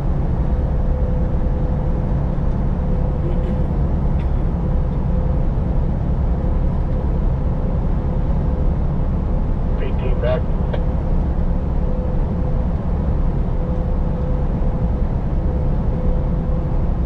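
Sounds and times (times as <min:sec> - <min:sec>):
truck engine drone in cab: 0:00.0 - 0:17.0.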